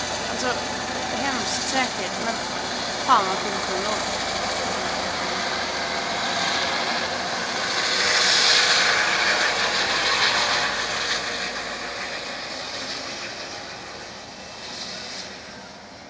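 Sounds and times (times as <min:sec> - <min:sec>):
helicopter rotor and turbine: 0:00.0 - 0:16.0.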